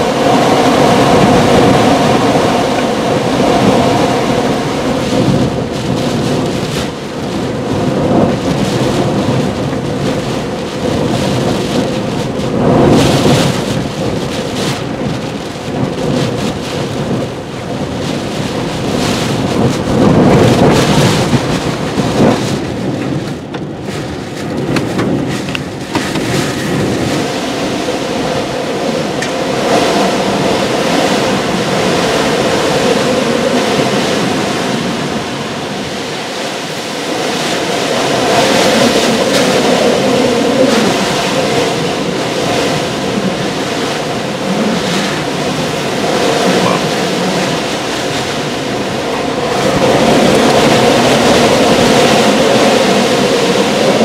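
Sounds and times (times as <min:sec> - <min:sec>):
driving rain: 0:00.0 - 0:54.0
wind gusting: 0:00.0 - 0:54.0.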